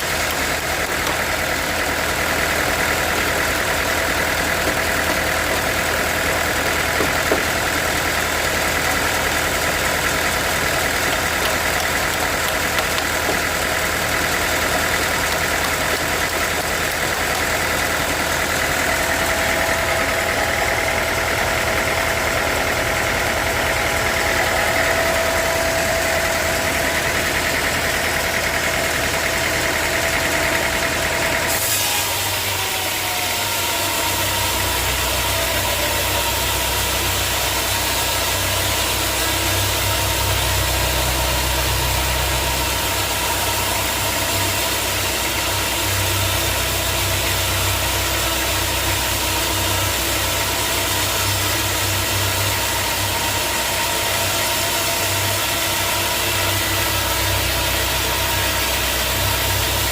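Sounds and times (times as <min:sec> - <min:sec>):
deep hum: 0:00.0 - 0:31.6, 0:32.4 - 0:59.9
sawmill machinery running: 0:00.0 - 0:59.9.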